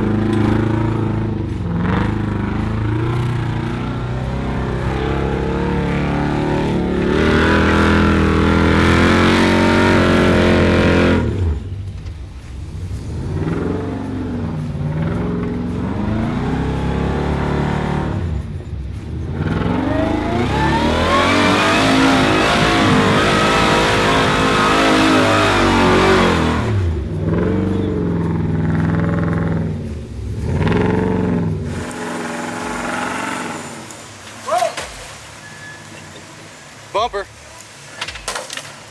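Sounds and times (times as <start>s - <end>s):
engine revving hard: 0.0s - 11.8s, 12.9s - 34.2s.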